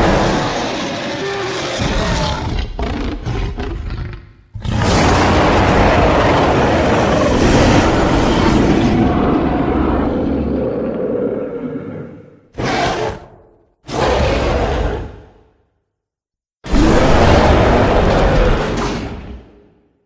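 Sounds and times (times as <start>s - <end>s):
long loud creature roar: 0.0s - 15.4s, 16.7s - 19.6s.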